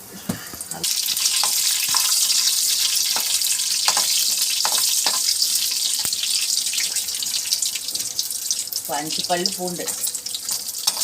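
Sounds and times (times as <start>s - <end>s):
hot oil sizzling with seeds: 0.6s - 11.0s.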